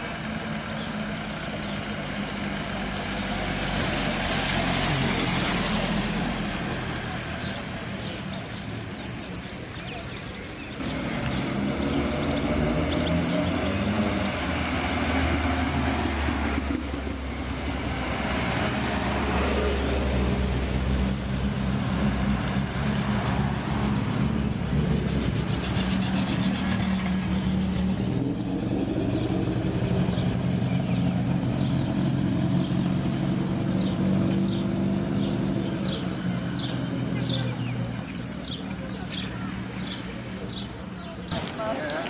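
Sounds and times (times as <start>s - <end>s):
cars driving slowly past: 0.0s - 42.0s.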